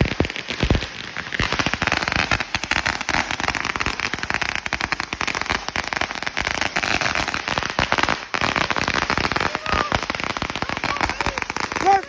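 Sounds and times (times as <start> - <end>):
firecracker roll bangs and crackles: 0.0 - 12.0.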